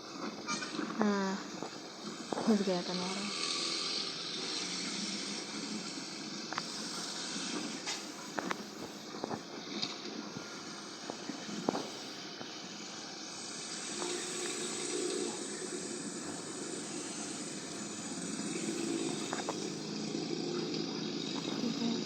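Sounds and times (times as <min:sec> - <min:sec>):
road traffic hiss: 0:01.2 - 0:22.0.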